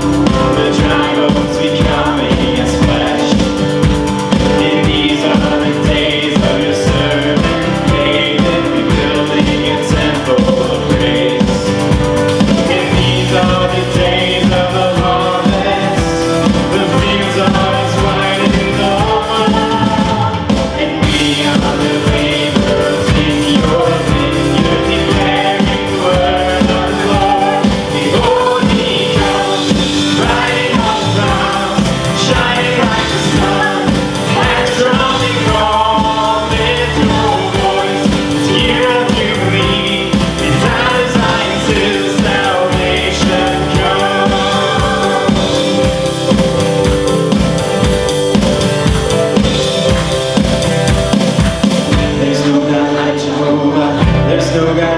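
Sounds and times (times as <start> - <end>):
live band playing: 0.0 - 54.9
people singing: 0.0 - 54.9.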